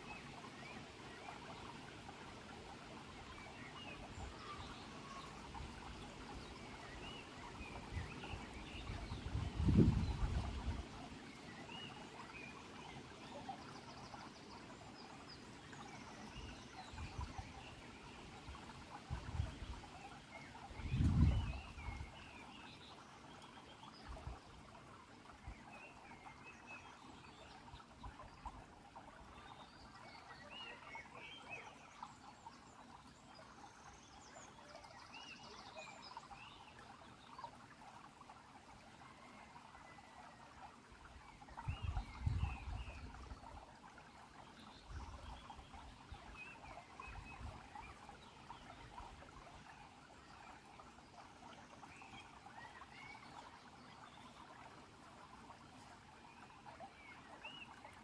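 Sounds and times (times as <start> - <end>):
stream trickling over pebbles: 0.0 - 58.0.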